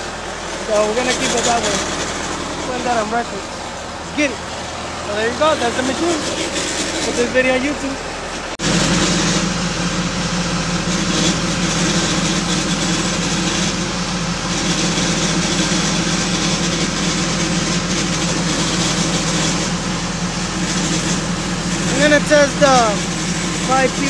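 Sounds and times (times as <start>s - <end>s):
diesel engine running steadily: 0.0s - 24.0s.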